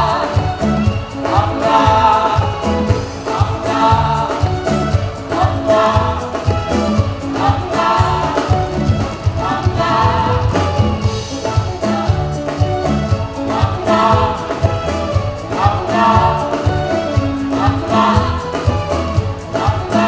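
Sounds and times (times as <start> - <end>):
live band music: 0.0 - 20.0
singers singing together: 0.0 - 20.0.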